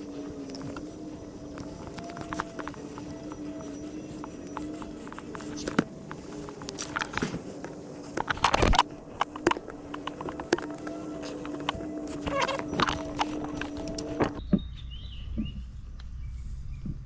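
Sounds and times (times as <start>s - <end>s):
hand tools clicking and knocking: 0.0s - 14.4s
steady low hum: 0.0s - 17.0s.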